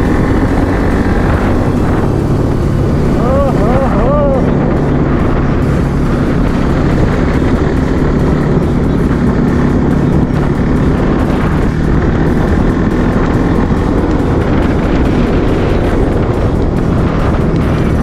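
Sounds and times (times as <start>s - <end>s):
motorcycle engine cruising: 0.0s - 18.0s
wind noise on microphone: 0.0s - 18.0s.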